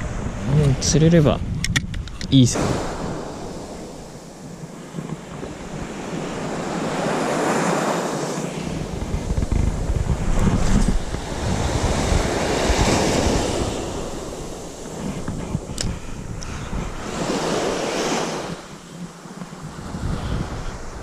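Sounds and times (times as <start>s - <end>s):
wind buffeting microphone: 0.0s - 21.0s
surf breaking on beach: 2.4s - 21.0s.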